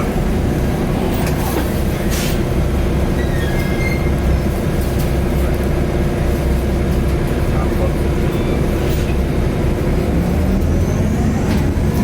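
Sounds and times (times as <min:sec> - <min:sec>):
bus engine rumble with whine: 0:00.0 - 0:12.0.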